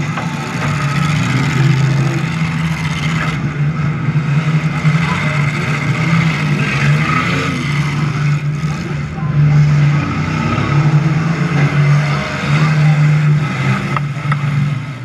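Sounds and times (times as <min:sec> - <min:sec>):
van engine rumbling: 0:00.0 - 0:15.0.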